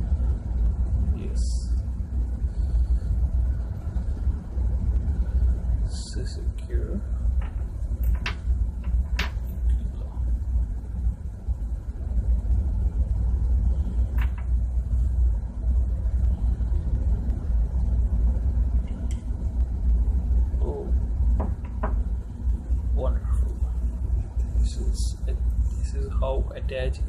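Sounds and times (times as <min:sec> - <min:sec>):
engine-room machinery rumble: 0:00.0 - 0:27.0.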